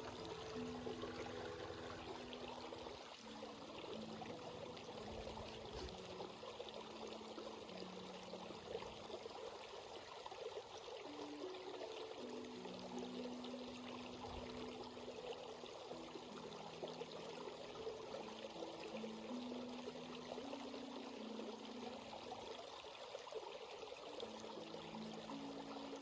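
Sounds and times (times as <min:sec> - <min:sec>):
stream babbling over rocks: 0:00.0 - 0:26.0.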